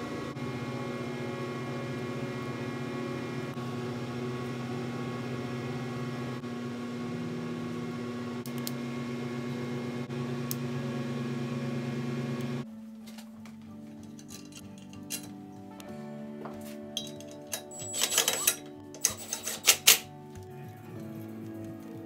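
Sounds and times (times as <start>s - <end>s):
furnace humming: 0.0s - 22.0s.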